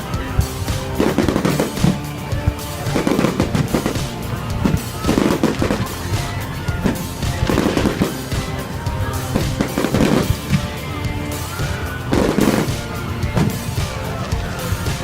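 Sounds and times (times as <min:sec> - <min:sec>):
music: 0:00.0 - 0:15.0
fireworks bangs and crackles: 0:00.4 - 0:15.0.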